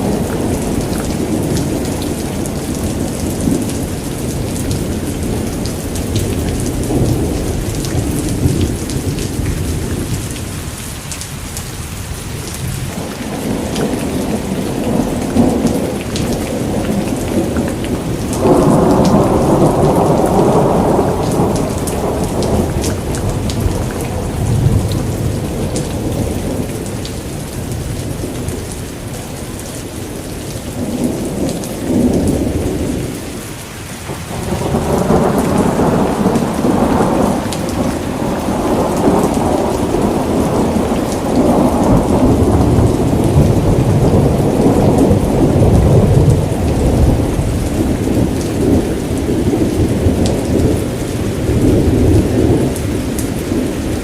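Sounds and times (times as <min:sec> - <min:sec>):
rolling thunder: 0:00.0 - 0:10.6, 0:12.6 - 0:33.3, 0:34.0 - 0:54.0
steady rain: 0:00.0 - 0:54.0.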